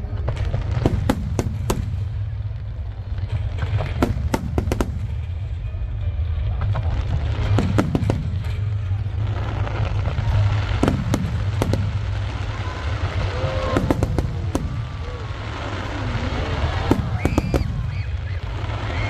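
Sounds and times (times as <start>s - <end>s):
fireworks bursting: 0.0s - 19.0s
sharp firework bangs: 0.1s - 5.6s, 6.6s - 19.0s.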